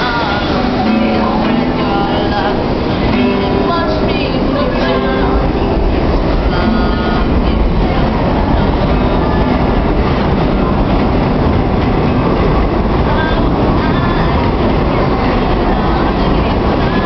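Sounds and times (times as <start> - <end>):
subway train running through station: 0.0 - 17.0.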